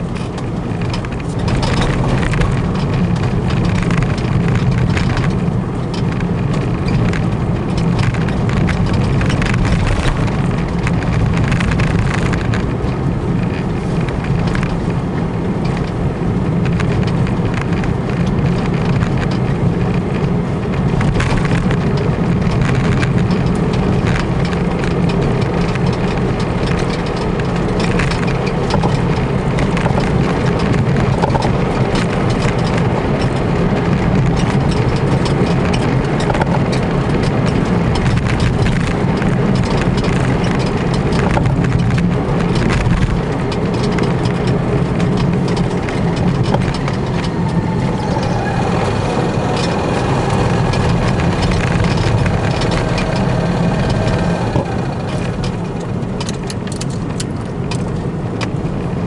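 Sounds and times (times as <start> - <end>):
car engine running: 0.0 - 59.0
car interior clicks and rattles: 0.0 - 59.0
road noise: 0.0 - 59.0.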